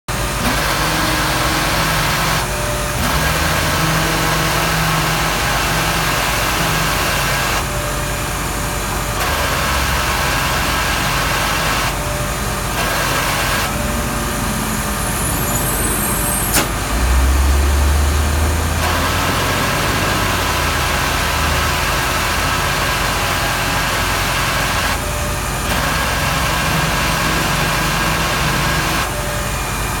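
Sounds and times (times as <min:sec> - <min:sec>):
truck suction roar: 0:00.1 - 0:30.0.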